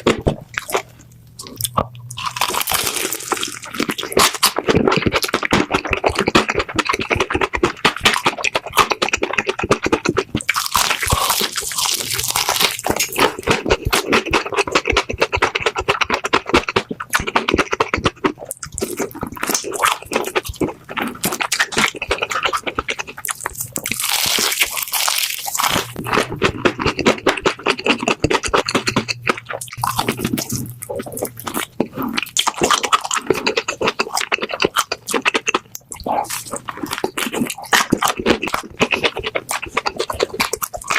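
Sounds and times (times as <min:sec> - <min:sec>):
crunchy chewing of fried chicken: 0:00.0 - 0:40.9.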